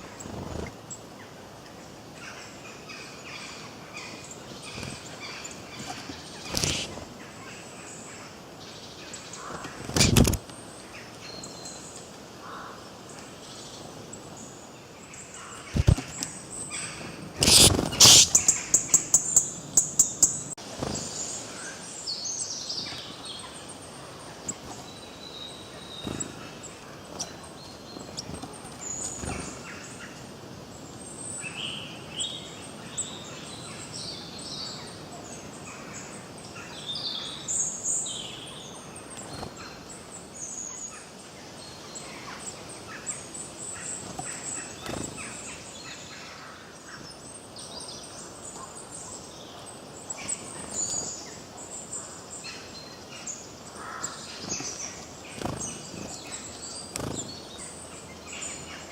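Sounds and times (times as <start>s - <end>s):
background hiss: 0.0s - 58.9s
songbirds chirping: 0.0s - 58.9s.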